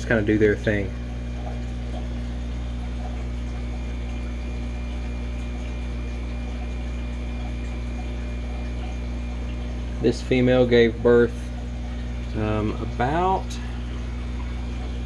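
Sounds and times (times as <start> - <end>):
aquarium pumps humming: 0.0 - 15.0
running water: 0.0 - 15.0.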